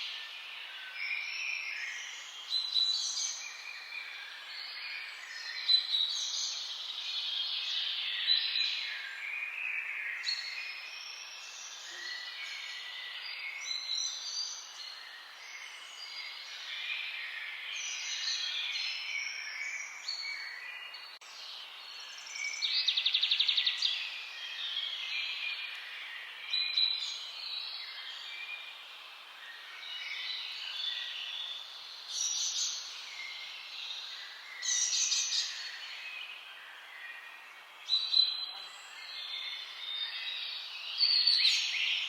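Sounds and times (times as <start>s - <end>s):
faint steady hiss: 0.0s - 42.0s
songbirds chirping: 0.0s - 42.0s.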